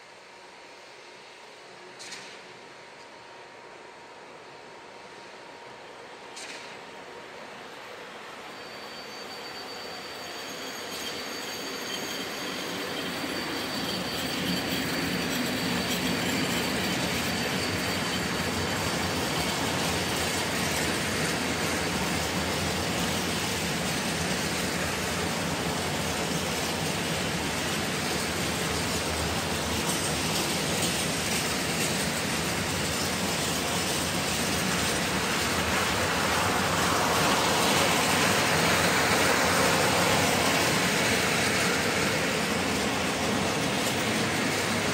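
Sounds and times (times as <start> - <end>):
thin high whine: 0.0 - 44.9
train wheels rumbling on rails: 0.1 - 44.9.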